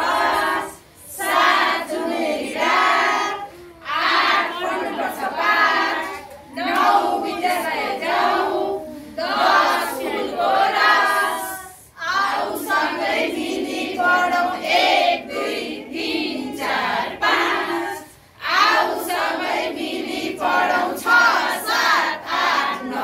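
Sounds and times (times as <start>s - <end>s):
group of women singing: 0.0s - 23.0s.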